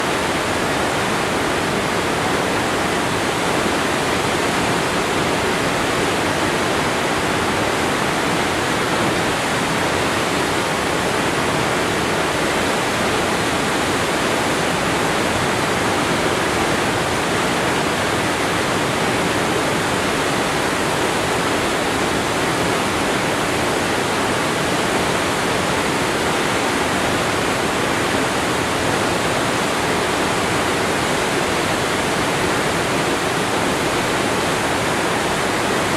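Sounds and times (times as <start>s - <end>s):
waterfall roaring: 0.0s - 35.9s.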